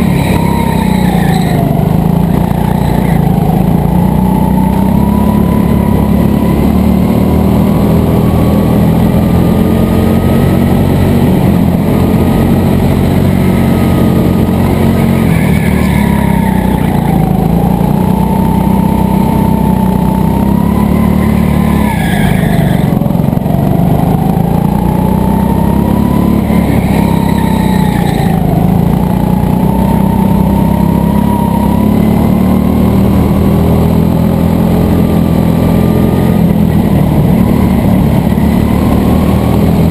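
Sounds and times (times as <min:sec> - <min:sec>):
go-kart engine whining: 0:00.0 - 0:39.9.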